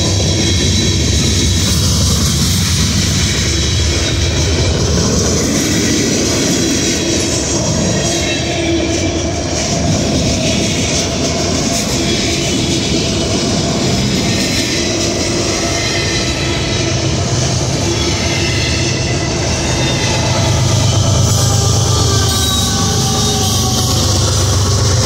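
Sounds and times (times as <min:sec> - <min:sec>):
freight train wheels clattering: 0:00.0 - 0:25.0.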